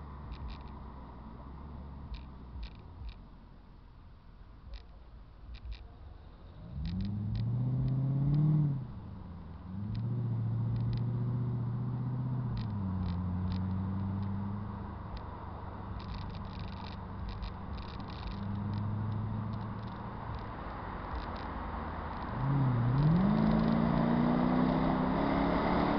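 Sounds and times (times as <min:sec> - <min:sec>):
car engine and exhaust: 0:00.0 - 0:25.9.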